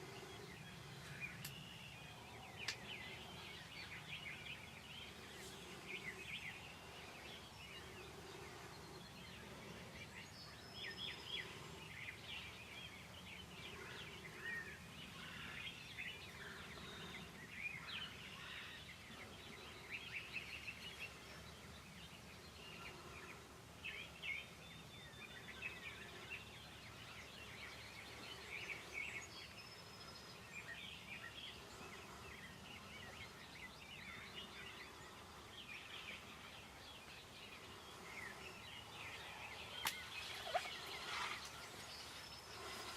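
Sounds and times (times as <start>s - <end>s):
faint outdoor background: 0.0s - 42.9s
songbirds chirping and singing: 0.0s - 42.9s.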